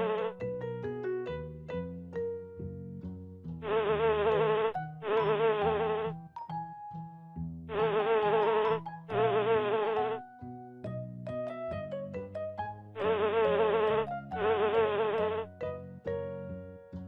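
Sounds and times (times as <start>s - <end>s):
children's tune of plinked notes: 0.0s - 2.9s, 3.6s - 17.0s.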